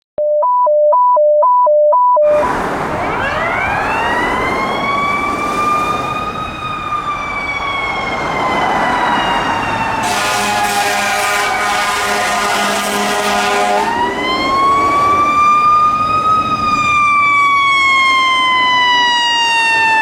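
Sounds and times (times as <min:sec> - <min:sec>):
fire truck siren wailing: 0:02.3 - 0:20.0
traffic noise: 0:02.3 - 0:20.0.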